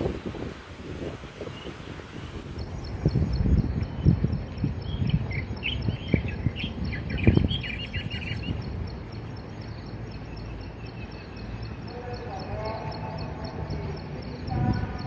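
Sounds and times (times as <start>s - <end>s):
songbird chirping: 1.4s - 15.0s.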